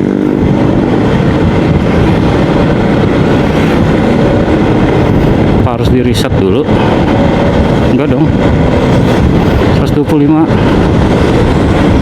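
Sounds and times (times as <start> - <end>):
scooter engine rumbling: 0.0 - 12.0.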